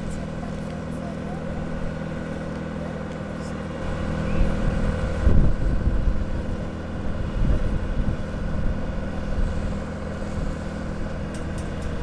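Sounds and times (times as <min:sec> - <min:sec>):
helicopter rotor rumble: 0:00.0 - 0:12.0
helicopter turbine whine: 0:00.0 - 0:12.0.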